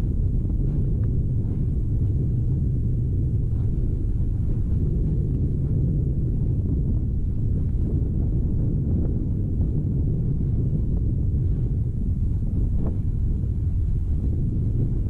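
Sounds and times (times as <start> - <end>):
low rumble of erupting volcanic vent: 0.0 - 15.0
wind on microphone: 0.0 - 15.0.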